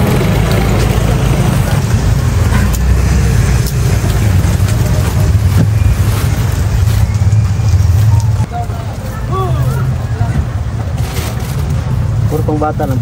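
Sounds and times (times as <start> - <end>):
heavy rain on tarpaulin awnings: 0.0 - 13.0
motor traffic: 0.0 - 13.0.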